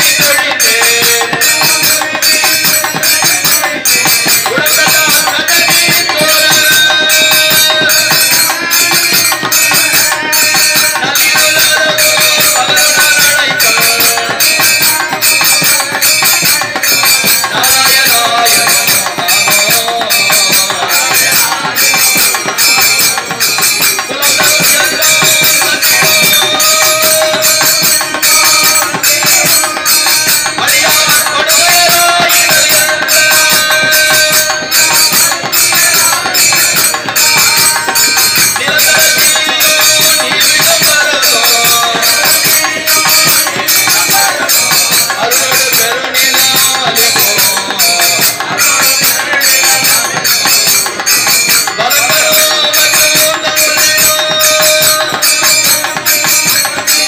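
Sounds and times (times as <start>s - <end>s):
devotional singing: 0.0s - 57.0s
jingling percussion beat: 0.0s - 57.0s.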